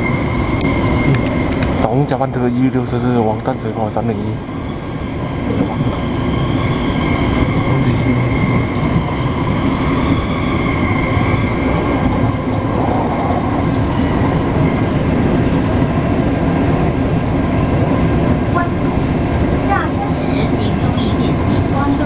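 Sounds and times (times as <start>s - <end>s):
train wheel and track rumble: 0.0s - 22.0s.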